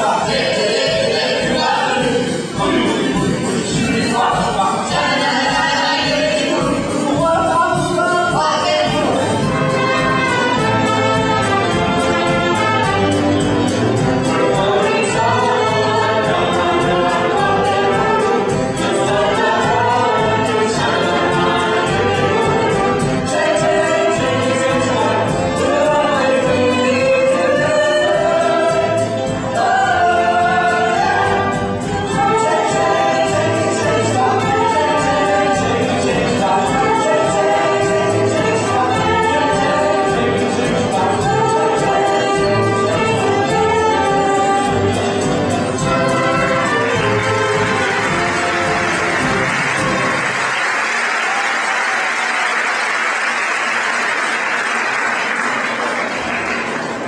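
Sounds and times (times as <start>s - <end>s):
cast singing a musical number: 0.0s - 13.2s, 14.0s - 49.2s
band playing a steady beat: 0.0s - 50.6s.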